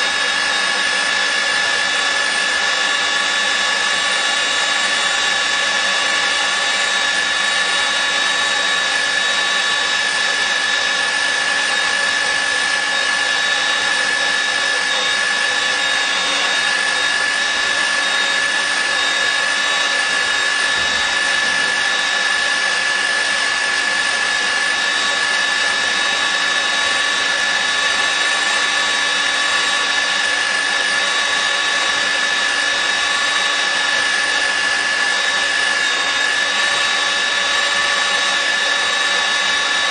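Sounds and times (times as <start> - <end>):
power drill motor whine: 0.0 - 39.9.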